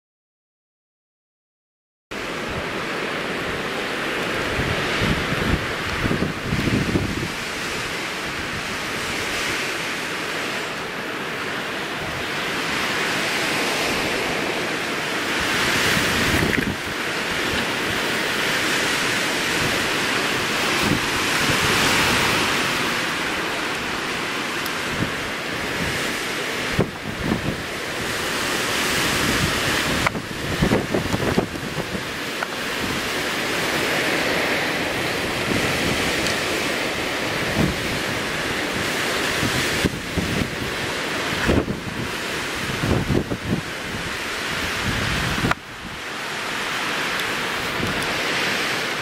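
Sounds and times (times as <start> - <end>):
wind rushing through pine trees: 2.1 - 49.0
wind buffeting microphone: 2.2 - 49.0.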